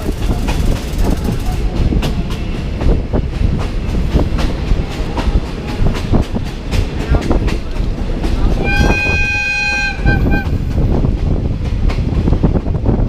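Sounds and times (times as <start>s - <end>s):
train rumbling on track: 0.0s - 13.0s
wheels clattering and knocking: 0.0s - 13.0s.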